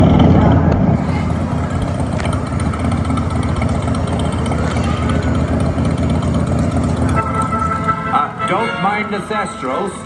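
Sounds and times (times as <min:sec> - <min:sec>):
motorbike engine idling: 0:00.0 - 0:08.4.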